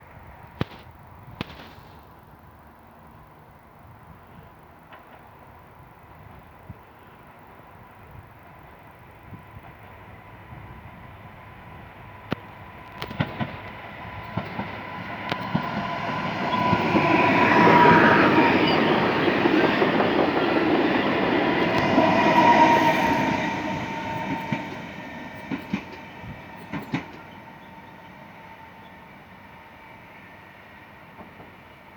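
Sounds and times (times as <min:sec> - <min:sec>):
electric train passing: 0:02.1 - 0:31.9.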